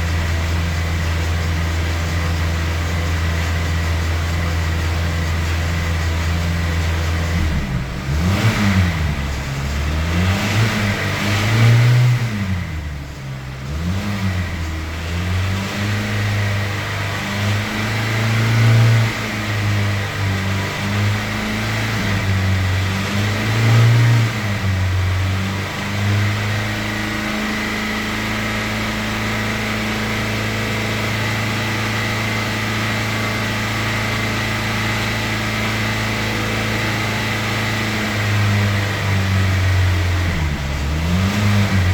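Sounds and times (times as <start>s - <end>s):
car engine revving high: 0.0s - 41.9s.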